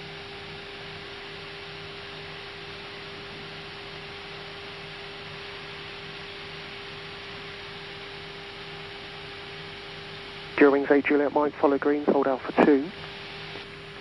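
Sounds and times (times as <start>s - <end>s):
constant hum: 0.1s - 14.0s.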